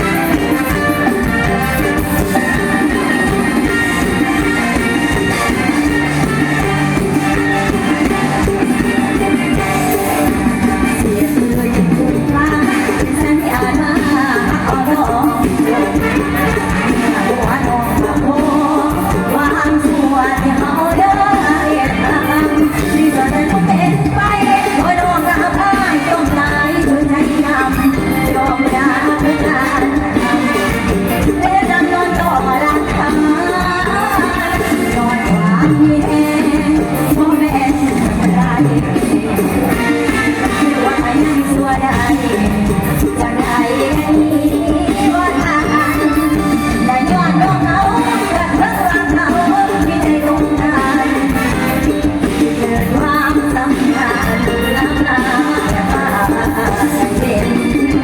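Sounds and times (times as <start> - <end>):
person singing with band: 0.0 - 58.0.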